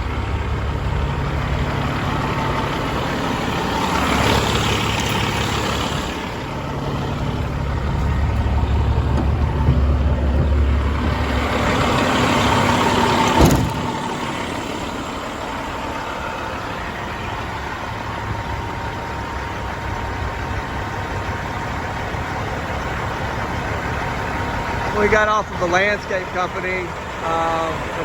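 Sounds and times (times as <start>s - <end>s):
diesel truck idling: 0.0s - 28.0s.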